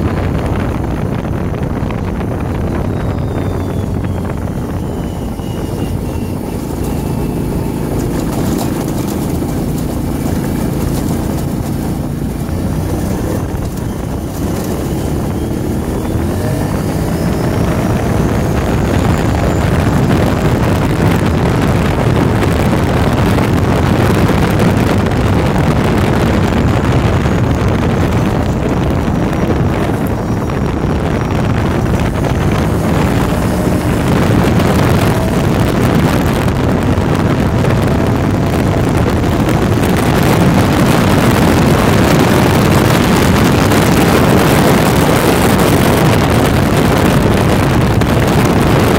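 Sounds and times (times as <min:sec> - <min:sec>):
quad engine running: 0:00.0 - 0:48.9
wind noise on microphone: 0:00.0 - 0:48.9.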